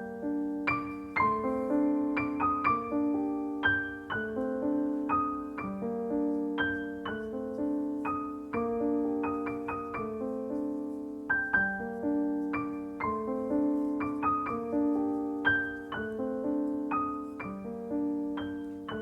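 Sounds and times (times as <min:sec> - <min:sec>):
gentle solo piano melody: 0:00.0 - 0:19.0.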